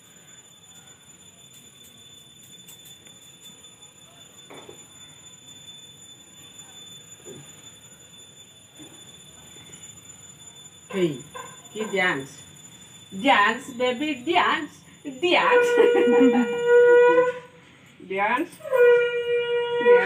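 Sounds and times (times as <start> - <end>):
thin high-pitched whine: 0.0 - 20.0.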